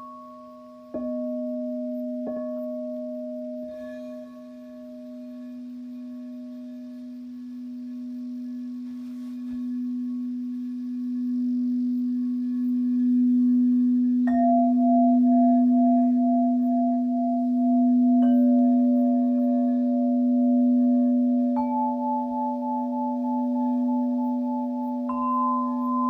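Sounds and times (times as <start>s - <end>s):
singing bowls humming: 0.0s - 26.0s.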